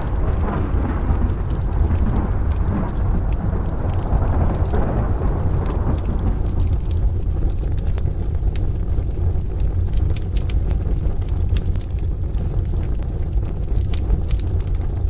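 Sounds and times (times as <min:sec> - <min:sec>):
deep rumble of stove: 0:00.0 - 0:15.0
wood fire crackling: 0:00.0 - 0:15.0.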